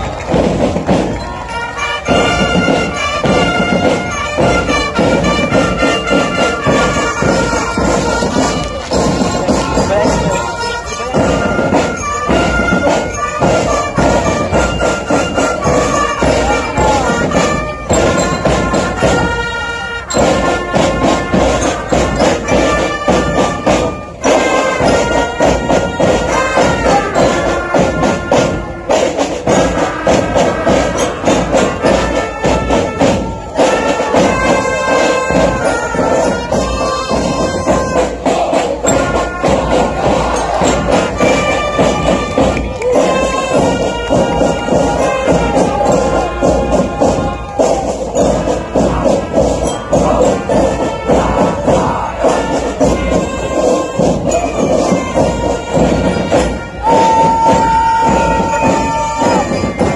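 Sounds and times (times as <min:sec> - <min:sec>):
brass band melody: 0:00.0 - 0:59.9
snare and bass drum beats: 0:00.0 - 0:59.9.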